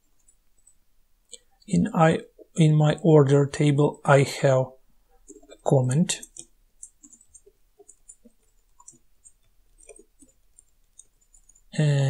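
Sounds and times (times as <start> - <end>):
faint keyboard typing: 0.0 - 3.1, 5.1 - 12.0.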